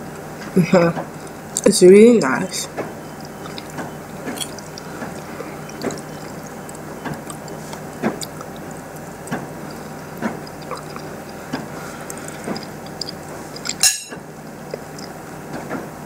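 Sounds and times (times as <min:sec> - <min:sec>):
wet chewing: 0:01.0 - 0:15.2.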